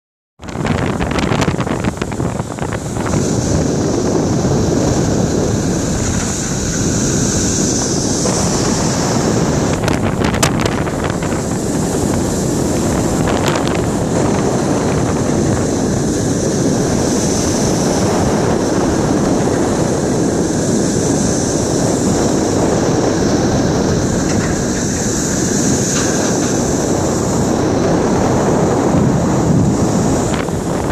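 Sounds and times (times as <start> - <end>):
rough sea: 0.4 - 30.9
strong wind buffeting microphone: 0.4 - 30.9.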